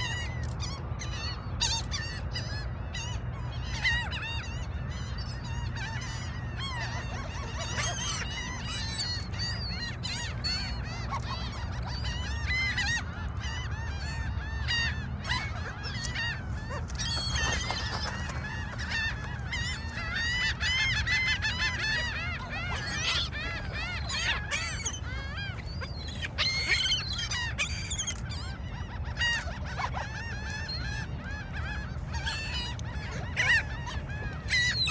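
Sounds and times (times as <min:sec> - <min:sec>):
gulls squawking: 0:00.0 - 0:34.9.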